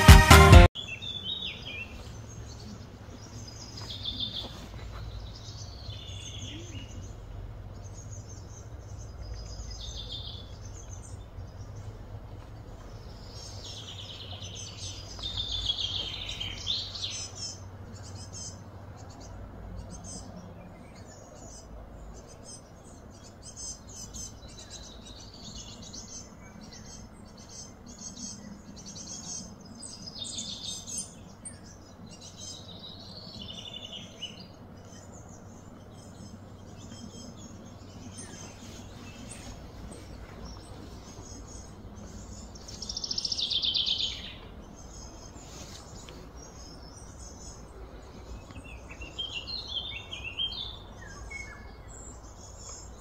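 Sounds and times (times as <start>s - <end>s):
songbirds chirping and singing: 0.0s - 53.0s
steady low hum: 1.5s - 53.0s.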